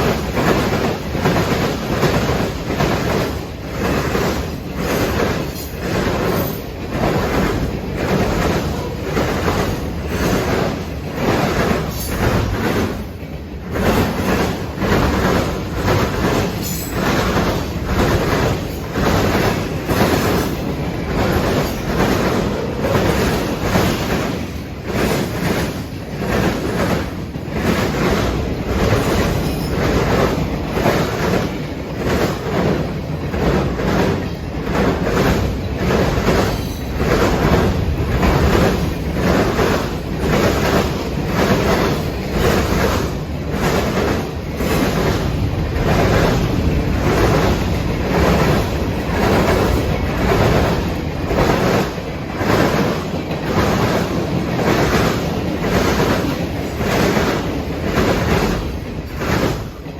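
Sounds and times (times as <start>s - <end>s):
train wheels rumbling on rails: 0.0s - 59.9s
wheels clacking over rail joints: 0.0s - 59.9s.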